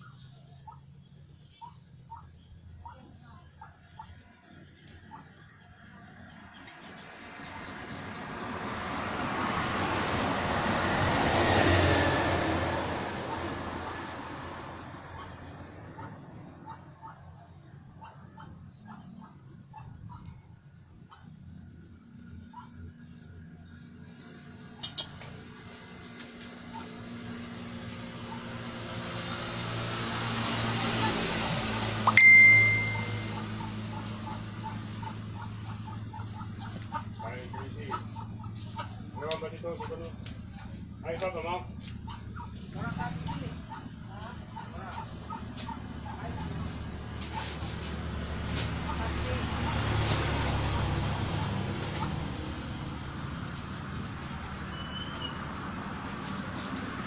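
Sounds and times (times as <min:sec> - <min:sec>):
vehicle passing by: 0:00.0 - 0:20.2, 0:20.9 - 0:57.0.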